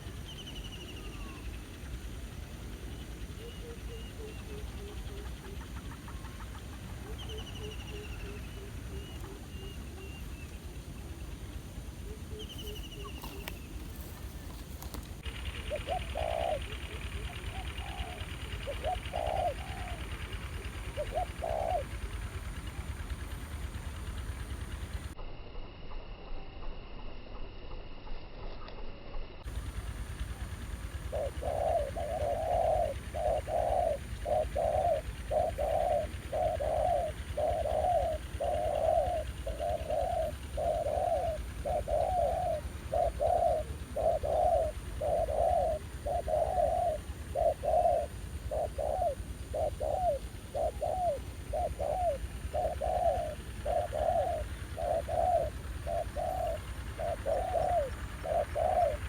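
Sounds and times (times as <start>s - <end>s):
doves cooing: 0.0s - 25.2s, 29.5s - 59.0s.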